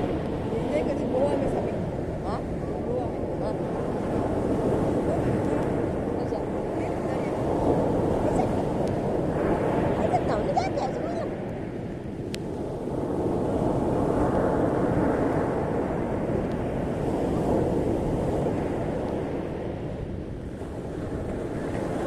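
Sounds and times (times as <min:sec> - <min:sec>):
ocean surf washing on beach: 0:00.0 - 0:22.0
wind rumbling on microphone: 0:00.0 - 0:22.0.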